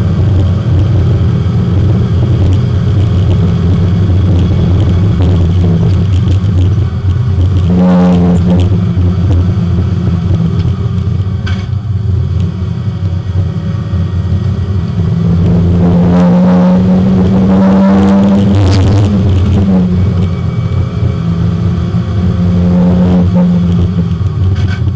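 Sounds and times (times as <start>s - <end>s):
race car engine from inside: 0.0s - 24.9s.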